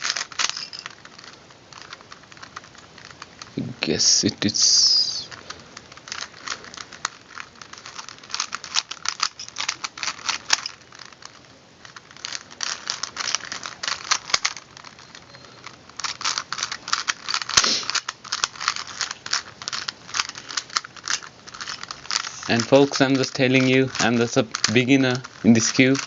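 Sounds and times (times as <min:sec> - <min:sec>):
puzzle cube clicking and rattling: 0:00.0 - 0:26.0.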